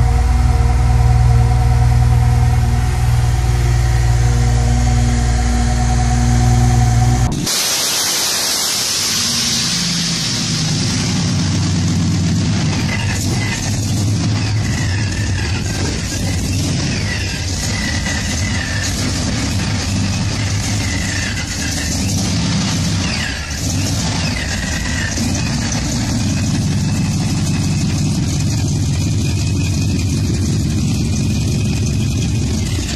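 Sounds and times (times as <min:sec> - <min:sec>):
car engine idling: 0:00.0 - 0:32.9
engine running with loud hiss: 0:00.0 - 0:32.9.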